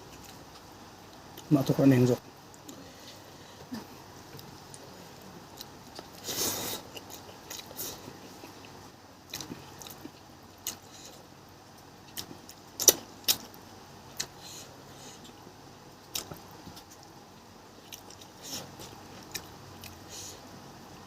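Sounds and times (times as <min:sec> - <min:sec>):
soft chewing: 0:00.0 - 0:01.5, 0:02.4 - 0:20.5.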